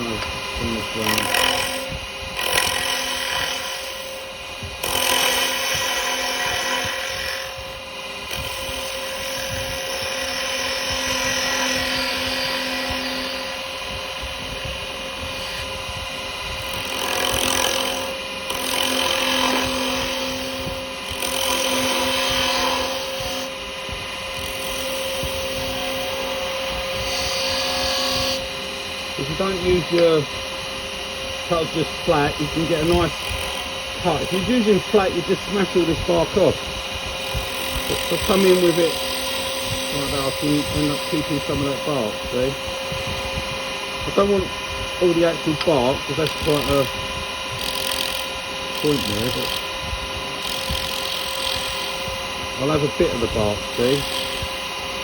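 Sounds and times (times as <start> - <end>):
cutter hissing on spinning wood: 0.0 - 55.0
wood lathe humming: 0.0 - 55.0.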